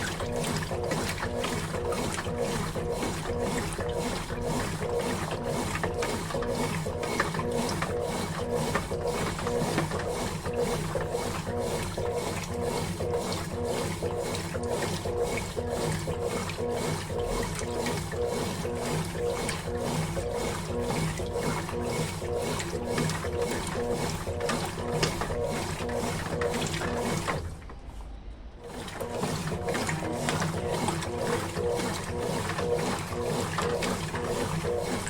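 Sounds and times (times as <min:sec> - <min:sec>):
washing machine agitating laundry: 0:00.0 - 0:35.0.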